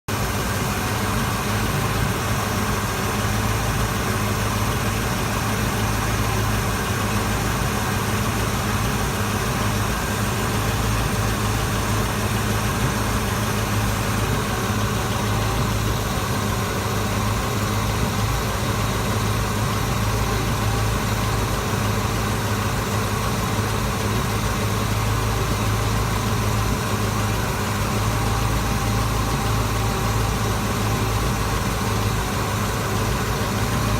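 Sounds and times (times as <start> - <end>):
vehicle engine idling: 0.1 - 33.9.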